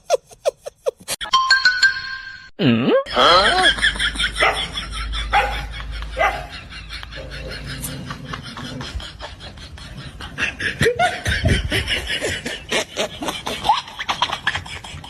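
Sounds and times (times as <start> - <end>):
person snickering: 0.0 - 1.2, 2.6 - 15.0.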